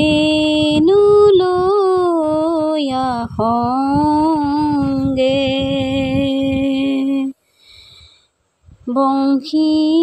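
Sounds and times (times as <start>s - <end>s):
person singing devotional song: 0.0s - 7.4s, 8.8s - 10.0s.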